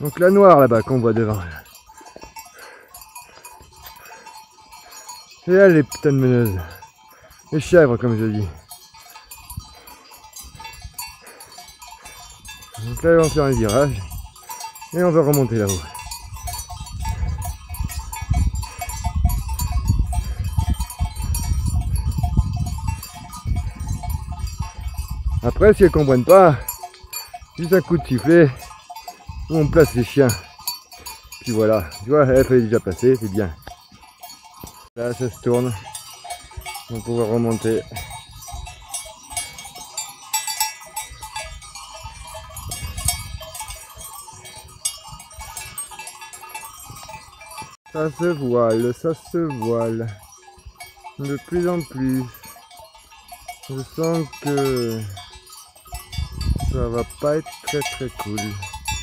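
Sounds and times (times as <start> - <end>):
sheep bells clinking: 0.0 - 59.0
wind buffeting microphone: 4.8 - 53.1, 53.9 - 59.0.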